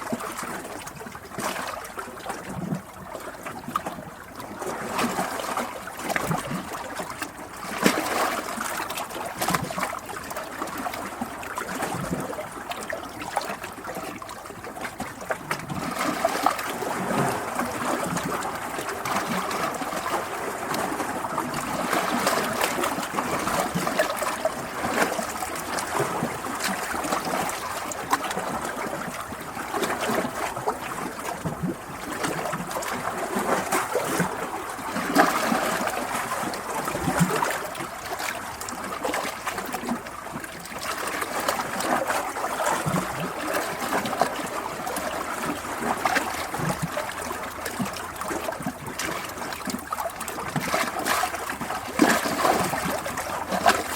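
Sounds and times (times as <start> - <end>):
stream water trickling: 0.0 - 53.9.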